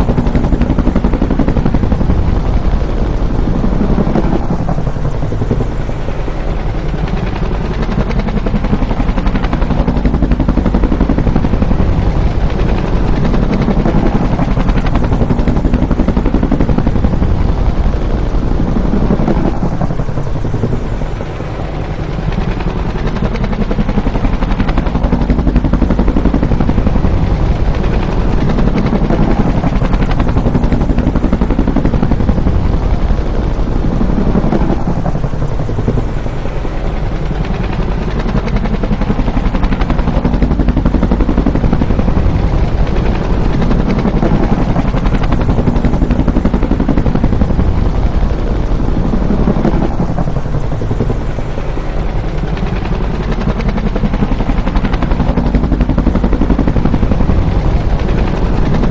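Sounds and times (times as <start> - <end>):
helicopter rotor beating: 0.0 - 58.9.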